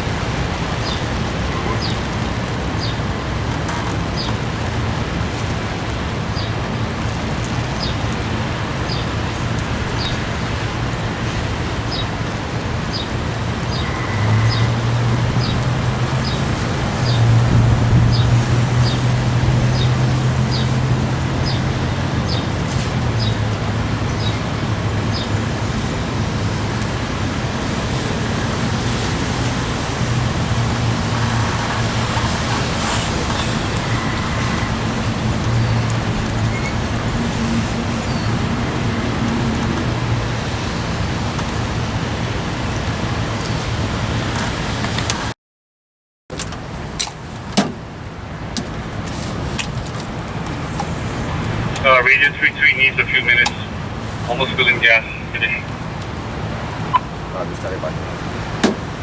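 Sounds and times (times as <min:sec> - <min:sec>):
road traffic: 0:00.0 - 0:45.4, 0:46.3 - 0:59.0.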